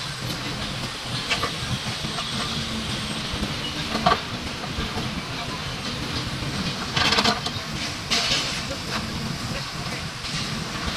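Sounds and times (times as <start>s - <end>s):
diesel engines droning: 0.0s - 10.9s.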